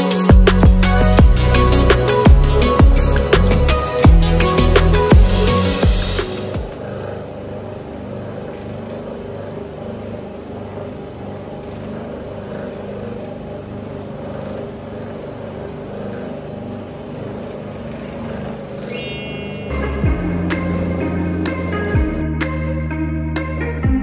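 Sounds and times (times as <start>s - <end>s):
carpet cleaning machine running: 0.0s - 22.2s.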